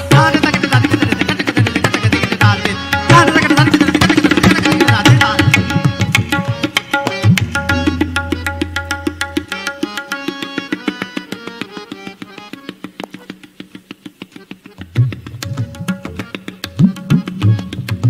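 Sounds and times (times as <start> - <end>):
tabla playing rapid strokes: 0.0 - 18.0.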